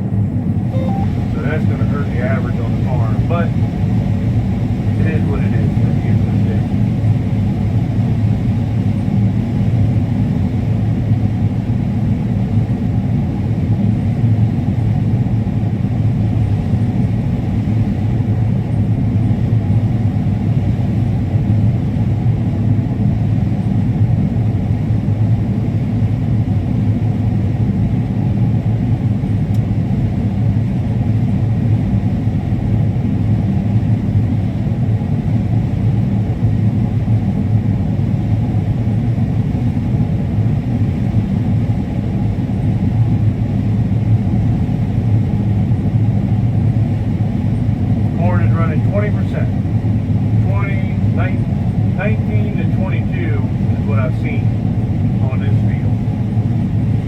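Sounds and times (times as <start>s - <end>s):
combine harvester drone: 0.0s - 57.0s.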